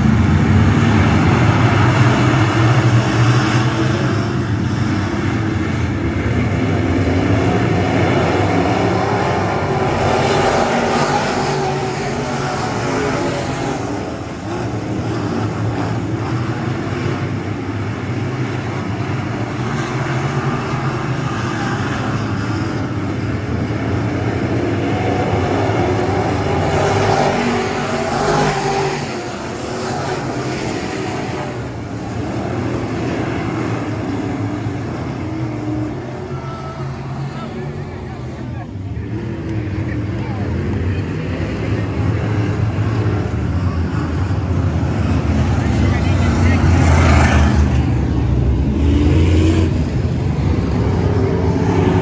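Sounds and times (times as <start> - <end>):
race car engines passing: 0.0 - 52.0.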